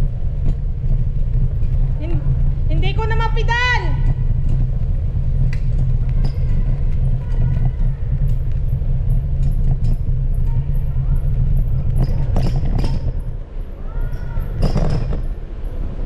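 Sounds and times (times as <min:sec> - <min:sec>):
wheels rolling on asphalt: 0:00.0 - 0:16.0
wind buffeting microphone: 0:00.0 - 0:16.0.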